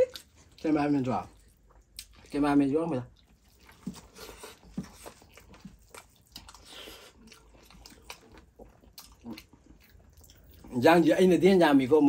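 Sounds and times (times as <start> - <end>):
people chewing food: 0.0 - 11.6.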